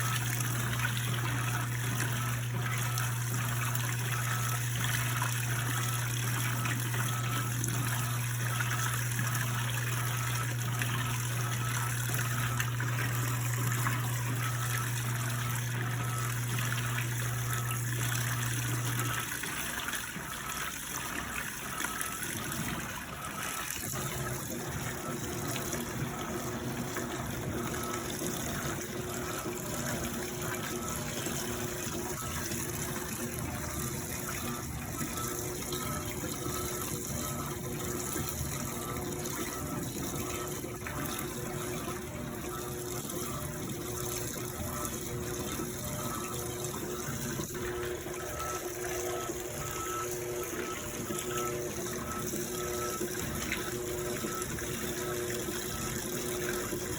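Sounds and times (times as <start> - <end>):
water splashing in washing machine: 0.0 - 56.9.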